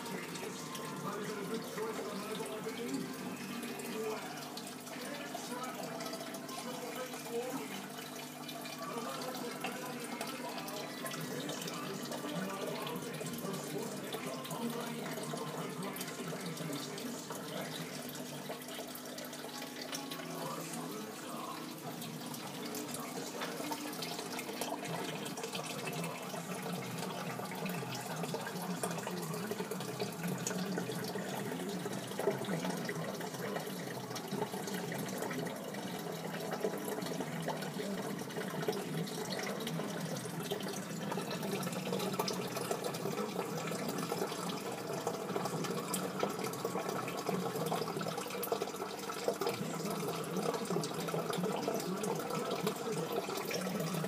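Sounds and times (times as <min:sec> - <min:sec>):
aquarium water trickling and bubbling: 0:00.0 - 0:54.0.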